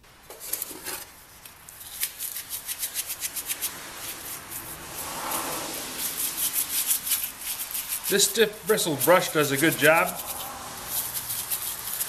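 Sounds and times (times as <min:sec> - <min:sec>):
stiff brush scrubbing metal: 0:01.7 - 0:12.0.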